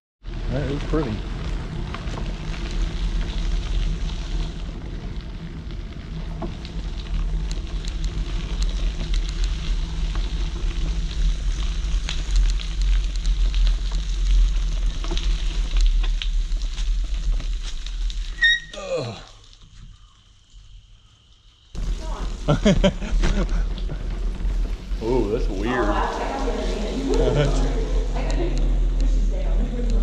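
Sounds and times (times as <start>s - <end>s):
bicycle tyres crackling on gravel: 0.2s - 30.0s
low rumble of ride noise: 0.3s - 18.7s, 21.8s - 30.0s.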